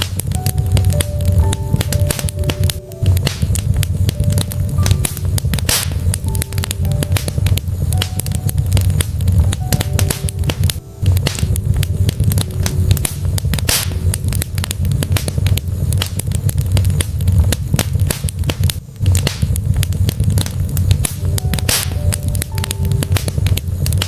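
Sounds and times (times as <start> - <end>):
low rumble of flame: 0.0 - 24.0
wood fire crackling and popping: 0.0 - 24.0.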